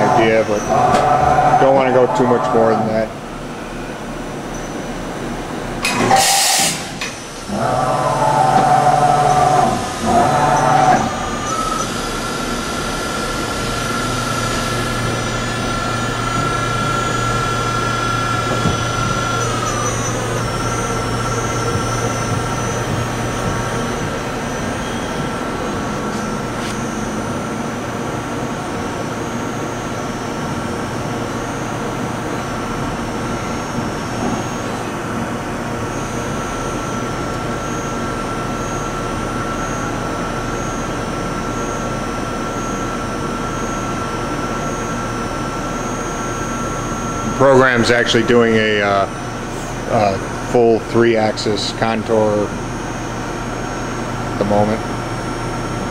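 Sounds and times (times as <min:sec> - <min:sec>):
high whine sliding down in pitch: 0:00.0 - 0:04.0, 0:06.9 - 0:55.8
lower machine hum: 0:00.0 - 0:55.9
machining center mechanical hum: 0:00.0 - 0:55.9.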